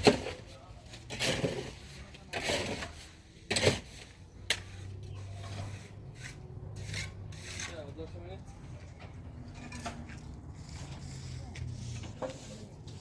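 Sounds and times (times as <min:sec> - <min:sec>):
scraping noises: 0:00.0 - 0:13.0.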